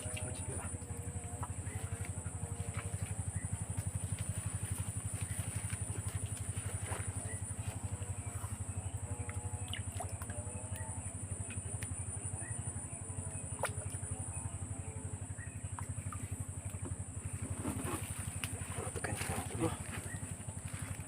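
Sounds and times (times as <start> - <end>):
small boat engine chugging: 0.0 - 21.0.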